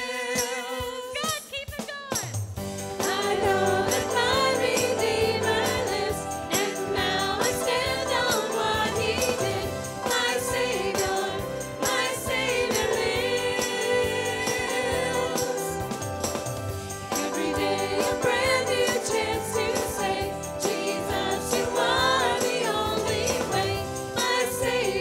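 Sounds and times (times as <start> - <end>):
instrumental accompaniment: 2.6 - 25.0
congregation singing: 3.0 - 16.2, 17.0 - 25.0.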